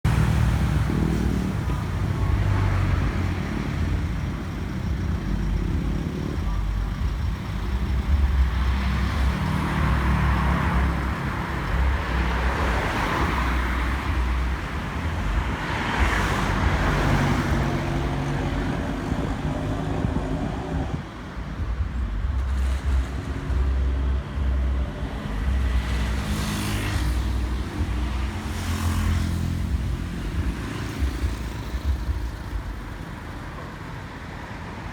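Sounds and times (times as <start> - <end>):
traffic road noise: 0.0 - 34.9
vehicle engine rumble: 0.0 - 34.9.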